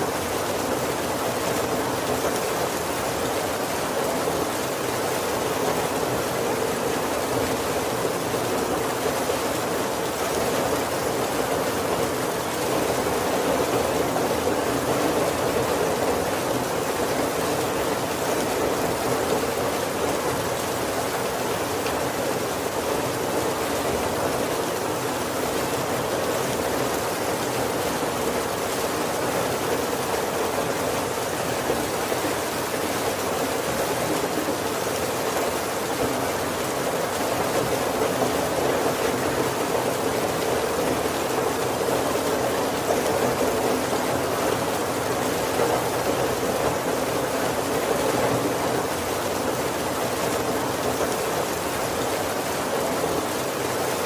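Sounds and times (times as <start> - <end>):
heavy rain on a wooden roof: 0.0 - 54.0.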